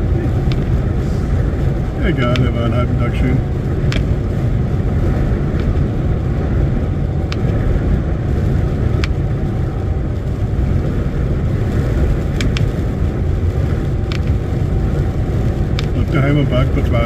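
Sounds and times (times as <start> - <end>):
engine and road rumble: 0.0 - 17.0.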